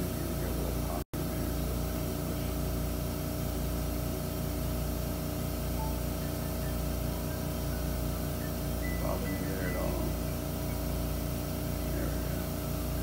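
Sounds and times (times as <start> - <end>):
surgical equipment motor hum: 0.0 - 13.0.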